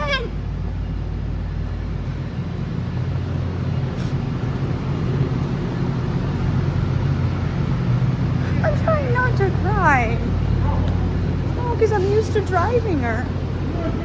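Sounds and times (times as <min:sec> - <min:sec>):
train engine idling: 0:00.0 - 0:14.0.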